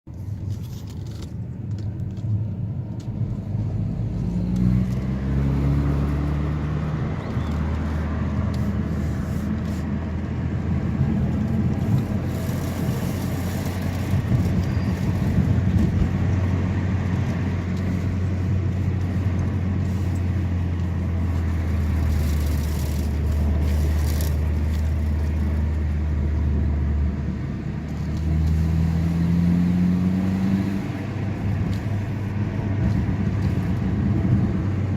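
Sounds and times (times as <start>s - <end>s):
car engine driving: 0.0s - 34.9s.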